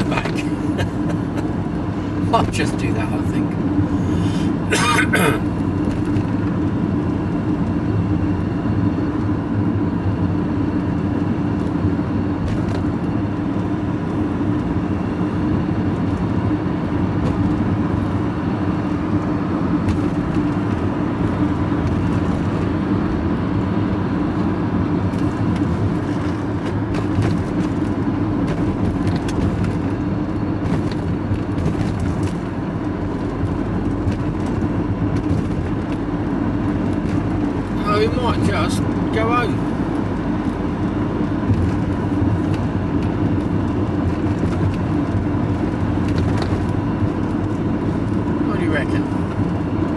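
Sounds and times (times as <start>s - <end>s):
road noise inside vehicle: 0.0s - 49.9s
vehicle engine drone: 0.0s - 49.9s.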